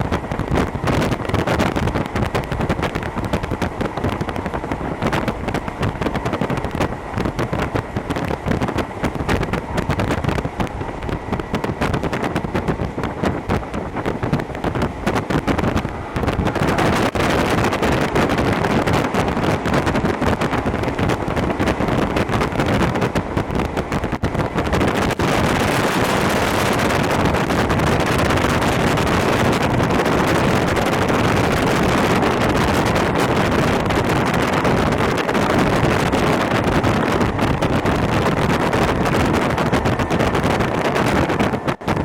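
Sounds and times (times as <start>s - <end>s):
train wheels rushing on rail: 0.0s - 42.0s.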